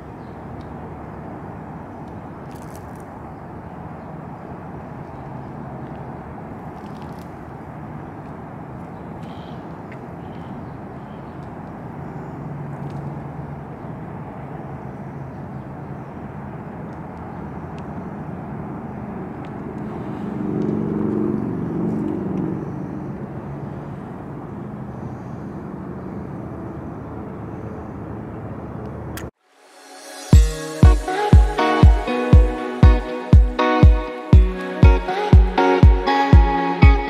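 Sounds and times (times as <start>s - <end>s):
distant road traffic hum: 0.0s - 37.0s
vehicle passing: 0.0s - 37.0s.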